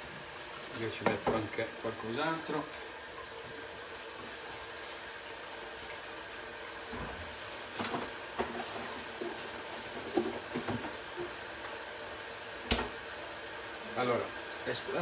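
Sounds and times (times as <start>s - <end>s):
sauce simmering in a pan: 0.0s - 15.0s.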